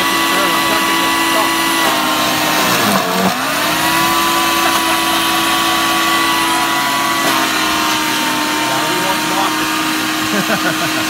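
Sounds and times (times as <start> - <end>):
chipper motor whining: 0.0 - 11.0.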